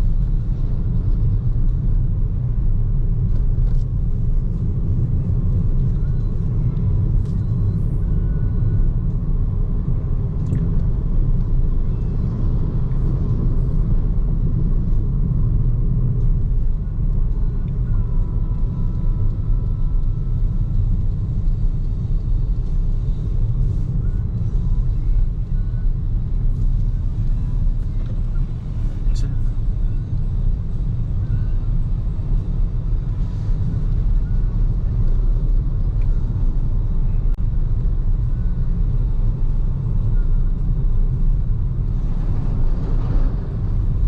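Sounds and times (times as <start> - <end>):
road and tyre noise: 0.0 - 44.0.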